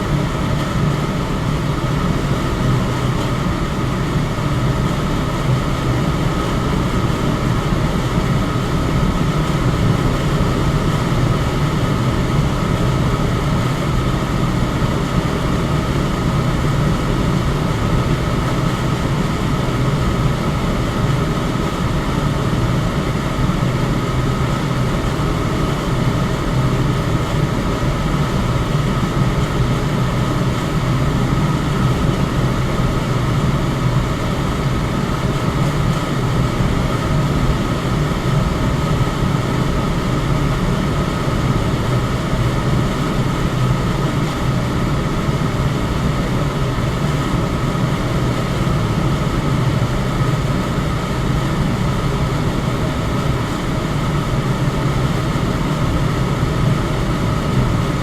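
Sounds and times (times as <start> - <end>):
electric fan running: 0.0 - 58.0.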